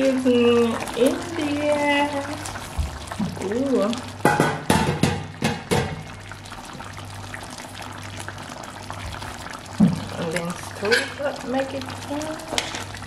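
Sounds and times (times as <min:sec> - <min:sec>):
pot bubbling on stove: 0:00.0 - 0:13.0.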